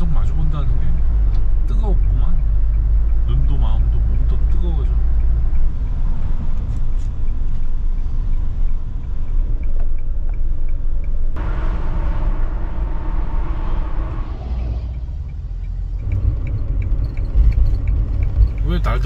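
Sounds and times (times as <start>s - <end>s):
engine and tyres rumbling: 0.0s - 19.0s
road and wind noise: 0.0s - 19.0s.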